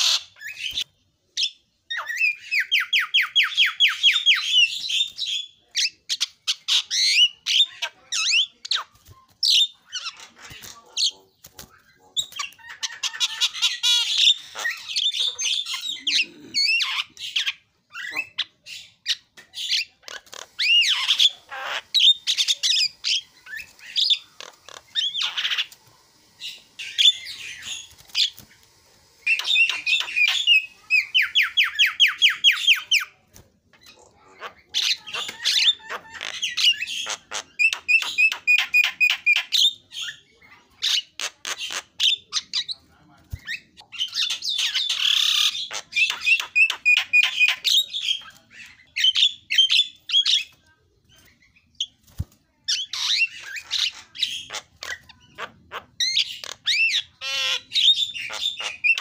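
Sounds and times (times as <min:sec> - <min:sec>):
bird song with chatter and whistles: 0:00.0 - 0:59.0.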